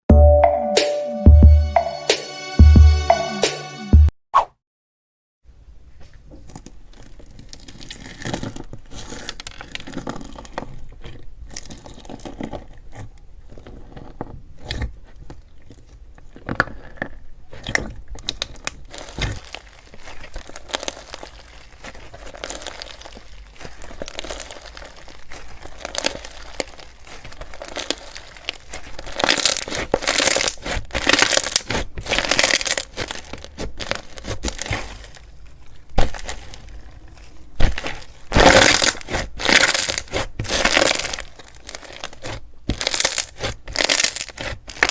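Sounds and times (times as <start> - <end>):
crunchy slime crackling: 6.2 - 44.9.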